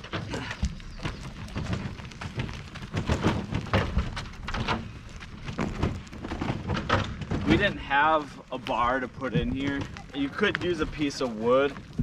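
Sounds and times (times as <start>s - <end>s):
wheeled cart knocking and rattling: 0.0s - 12.0s.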